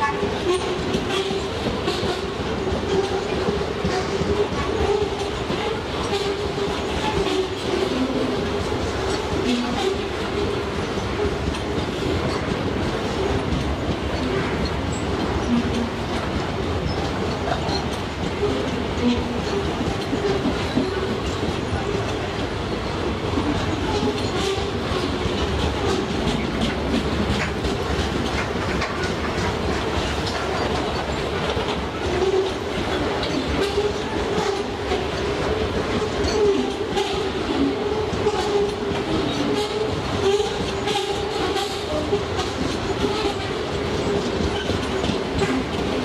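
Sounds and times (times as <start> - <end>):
freight train rumbling past: 0.0 - 46.0
wheels clicking over rail joints: 0.0 - 46.0.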